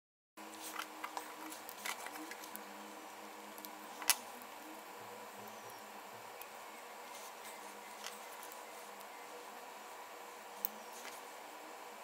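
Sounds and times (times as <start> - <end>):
steady low hum: 0.4 - 12.0.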